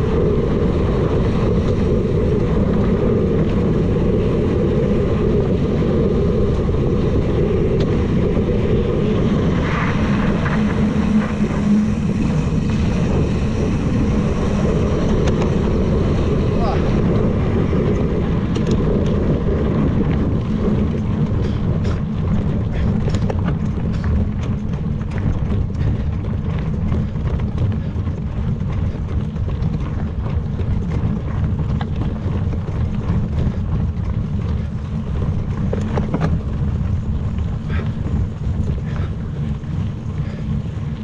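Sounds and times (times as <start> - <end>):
bike clicking and rattling: 0.0 - 41.0
wind buffeting microphone: 0.0 - 41.0.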